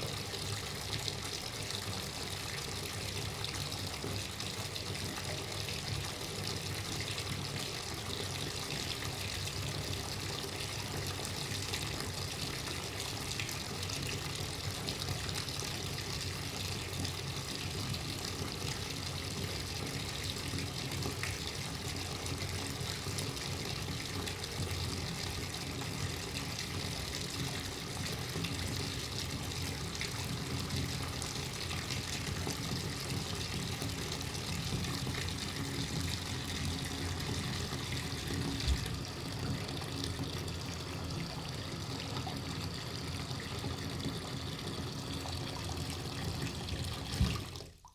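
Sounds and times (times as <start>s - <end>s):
water pouring into bathtub: 0.0s - 47.9s.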